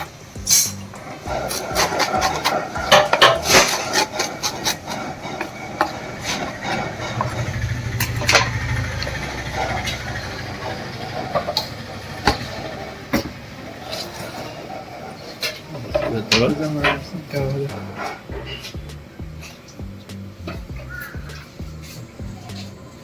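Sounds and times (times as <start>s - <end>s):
low hum: 0.0s - 13.6s, 15.8s - 23.0s
utensils and cookware knocking: 0.0s - 22.8s.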